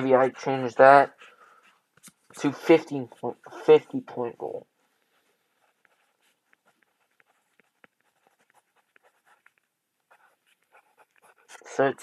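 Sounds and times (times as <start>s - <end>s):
pencil scratching on paper: 0.0s - 12.0s.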